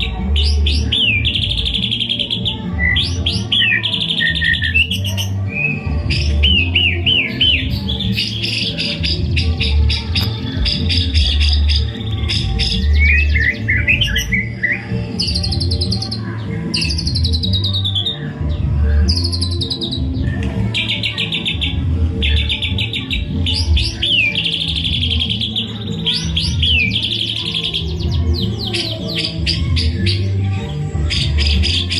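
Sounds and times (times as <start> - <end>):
background music with low beat: 0.0 - 31.9
bird singing: 0.0 - 31.9.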